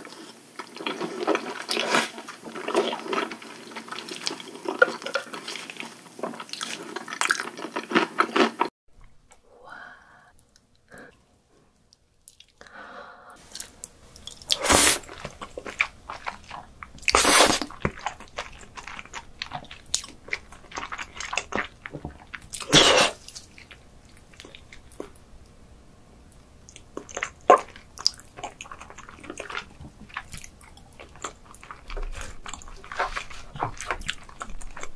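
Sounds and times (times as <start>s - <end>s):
wet chewing and slurping: 0.0s - 8.7s, 13.4s - 25.2s, 26.6s - 34.9s.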